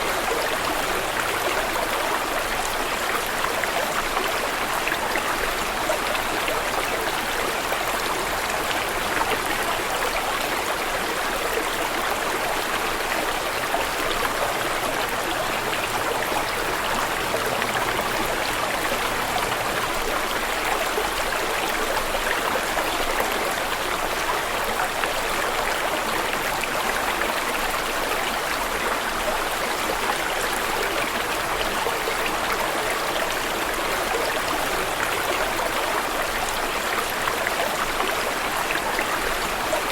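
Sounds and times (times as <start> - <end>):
stream of running water splashing: 0.0 - 39.9.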